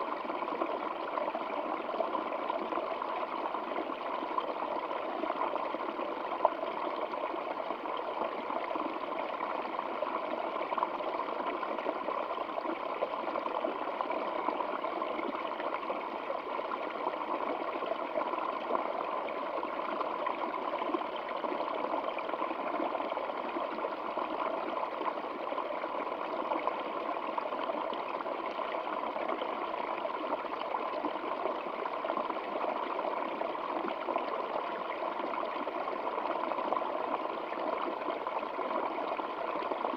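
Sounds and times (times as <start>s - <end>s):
stream water burbling: 0.0s - 39.9s.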